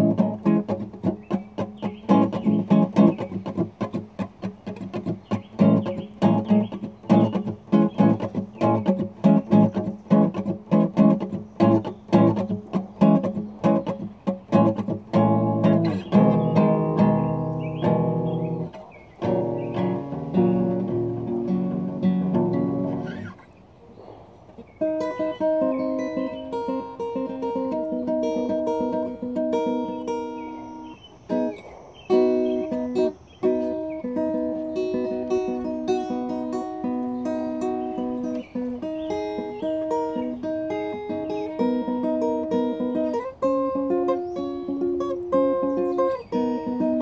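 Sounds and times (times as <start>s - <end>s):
acoustic guitar playing: 0.0s - 23.5s, 24.6s - 47.0s.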